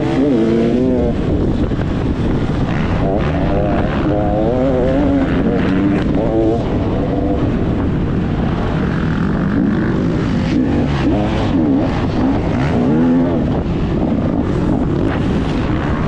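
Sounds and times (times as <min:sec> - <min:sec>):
dirt bike engine revving: 0:00.0 - 0:16.0
wind noise: 0:00.0 - 0:16.0.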